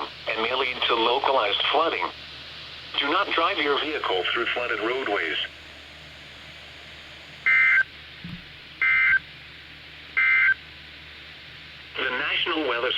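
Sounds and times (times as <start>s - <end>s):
radio hiss and hum: 0.0s - 9.3s, 11.5s - 12.9s.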